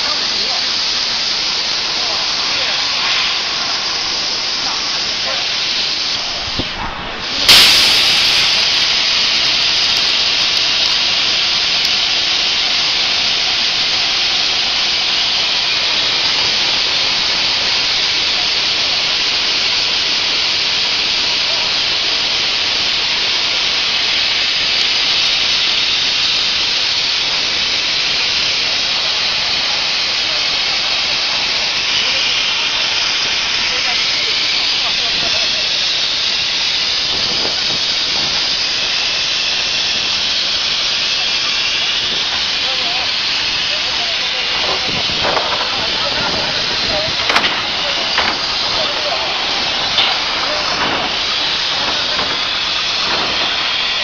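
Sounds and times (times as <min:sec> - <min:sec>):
plasma torch hissing: 0:00.0 - 0:54.0.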